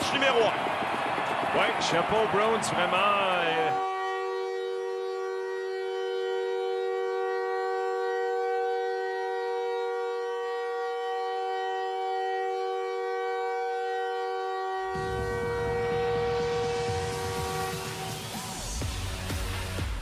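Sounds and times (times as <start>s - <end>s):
sustained electronic chord: 3.7s - 19.7s.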